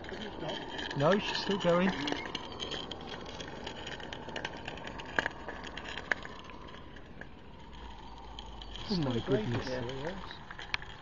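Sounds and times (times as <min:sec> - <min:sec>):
light crackling: 0:00.0 - 0:11.0.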